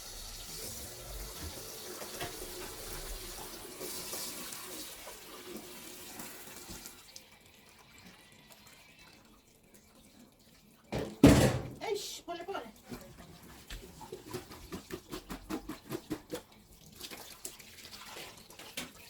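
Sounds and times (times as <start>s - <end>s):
tap water running into a sink: 0.0s - 19.0s.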